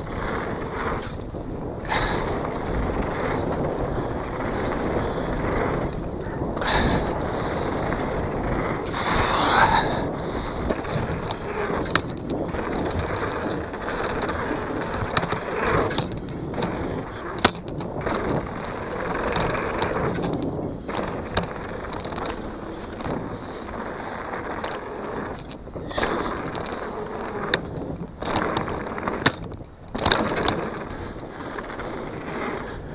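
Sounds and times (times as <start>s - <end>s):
bike clacking and rattling: 0.0s - 32.9s
tyre and wind rush: 0.0s - 32.9s.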